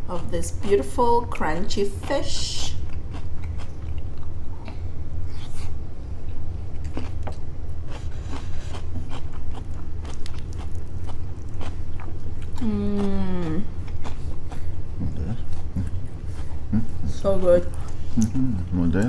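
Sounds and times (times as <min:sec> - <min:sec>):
steady low hum: 0:00.0 - 0:19.0
crunchy chewing: 0:02.0 - 0:19.0.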